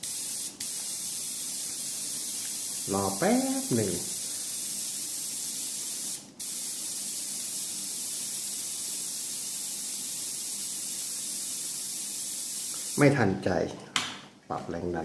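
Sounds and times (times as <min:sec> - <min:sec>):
airbrush compressed air hiss: 0:00.0 - 0:13.2.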